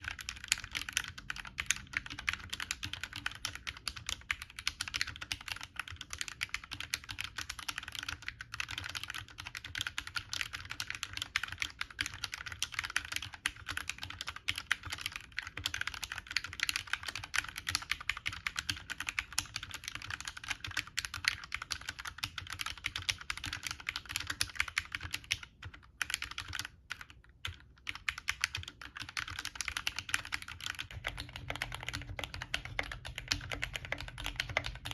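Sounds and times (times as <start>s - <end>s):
fast typing on mechanical keyboard: 0.0s - 34.9s.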